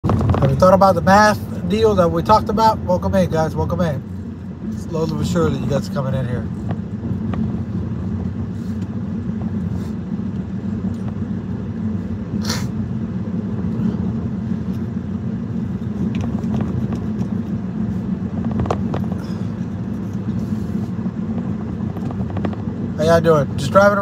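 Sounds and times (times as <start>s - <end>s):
car engine and tyre drone: 0.0s - 24.0s.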